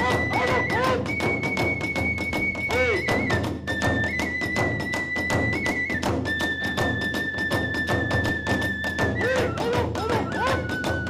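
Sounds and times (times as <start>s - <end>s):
bamboo flute: 0.0s - 11.0s
drum beat: 0.0s - 11.0s.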